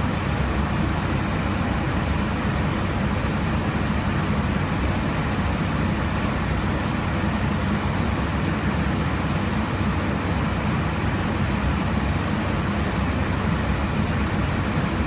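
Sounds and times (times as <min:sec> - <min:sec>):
airliner cabin engine rush: 0:00.0 - 0:15.0.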